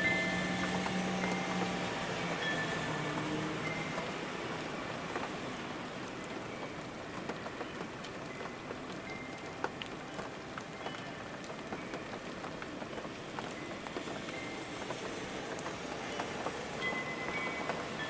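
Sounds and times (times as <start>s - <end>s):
raindrops ticking sharply: 0.0s - 18.0s
steady rain falling: 0.0s - 18.0s.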